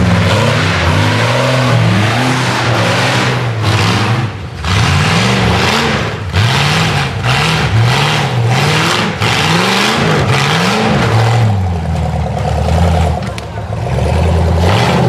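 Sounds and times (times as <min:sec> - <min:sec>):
buggy engine revving hard: 0:00.0 - 0:15.0.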